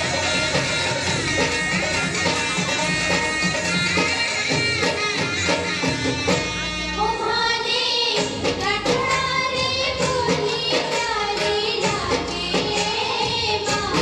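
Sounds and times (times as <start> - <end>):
steady drum beat: 0.0 - 6.7, 8.1 - 14.0.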